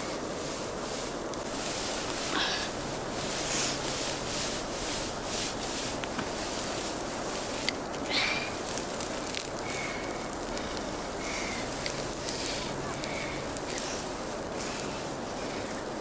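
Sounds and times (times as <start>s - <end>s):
dry grass crackling and rustling: 0.0s - 16.0s
stems snapping: 1.3s - 16.0s.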